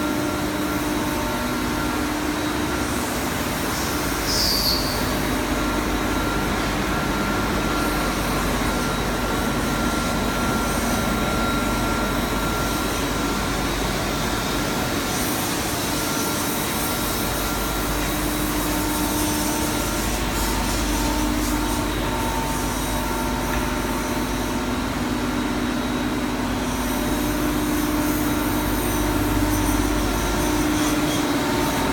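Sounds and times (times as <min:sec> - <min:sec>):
high machine whine: 0:00.0 - 0:31.9.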